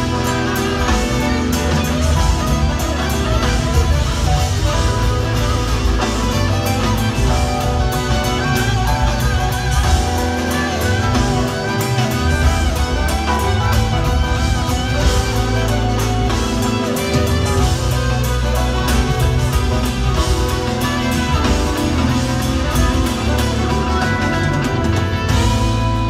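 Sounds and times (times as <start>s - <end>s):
electric guitar: 0.0s - 26.0s
live rock band: 0.0s - 26.0s.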